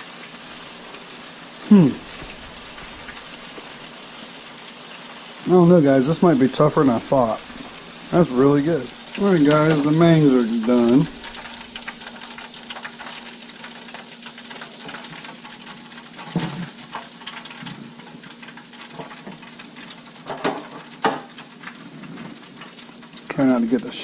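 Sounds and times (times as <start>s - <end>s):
hot oil crackling and sizzling: 0.0s - 24.0s.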